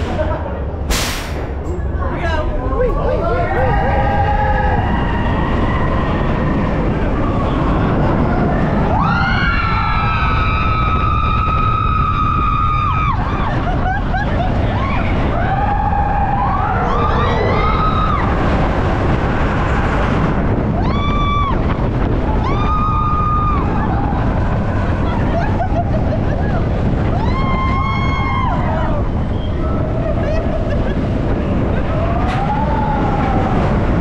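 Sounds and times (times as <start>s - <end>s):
roller coaster rumbling on track: 0.0s - 34.0s
wind noise on microphone: 0.0s - 34.0s.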